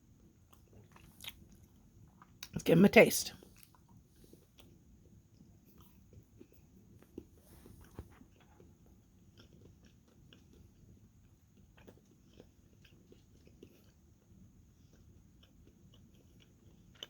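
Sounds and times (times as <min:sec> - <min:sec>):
faint chewing: 0:00.1 - 0:02.6, 0:03.3 - 0:17.0.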